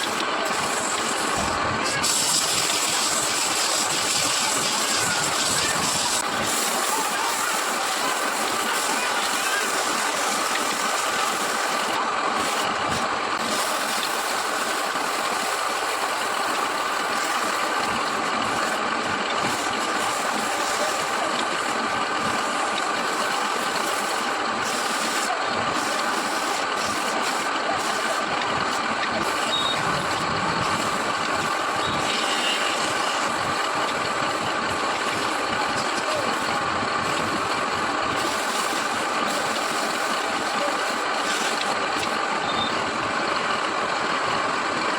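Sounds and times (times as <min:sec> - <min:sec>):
wood lathe humming: 0:00.0 - 0:44.9.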